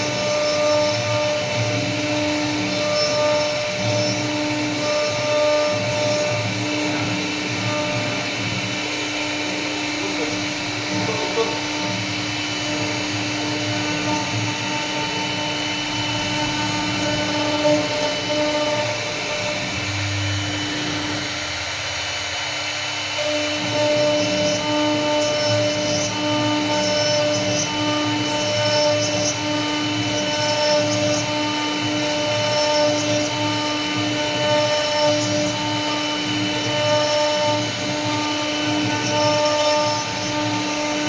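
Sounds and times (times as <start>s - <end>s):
router bit carving wood: 0.0s - 41.0s
wood router spindle whine: 0.0s - 41.0s.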